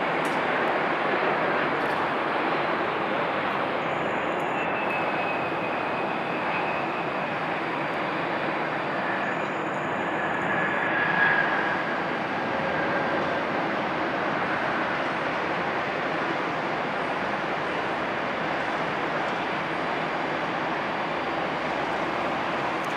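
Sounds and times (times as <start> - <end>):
high turbine whine: 0.0 - 22.9
jet engine noise: 0.0 - 22.9.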